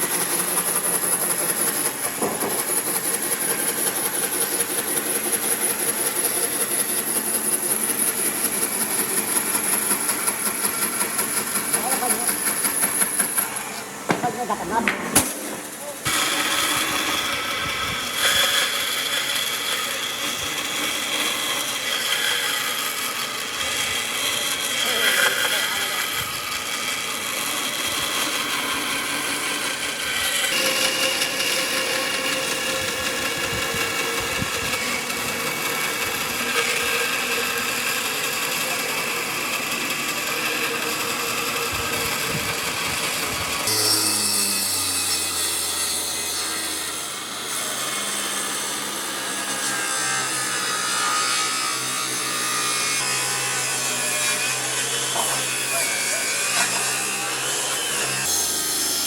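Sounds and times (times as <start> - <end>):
power tools: 0.0 - 59.0
wood sawing: 0.0 - 59.0.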